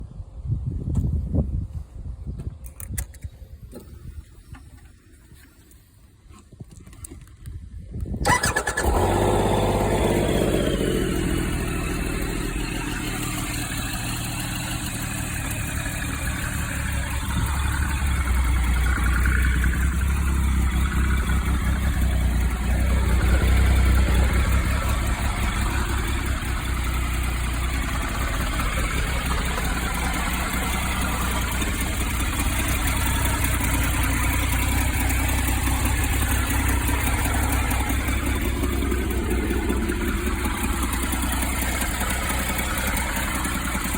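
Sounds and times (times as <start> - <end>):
motorcycle engine starting and idling: 2.3 - 43.9.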